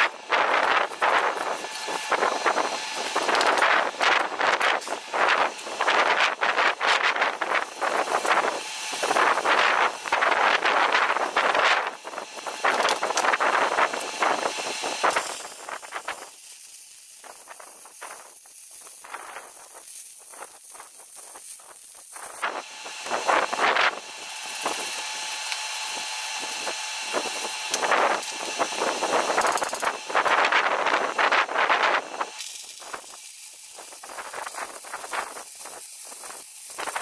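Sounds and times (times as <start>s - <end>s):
welding arc crackling and hissing: 0.0s - 37.0s.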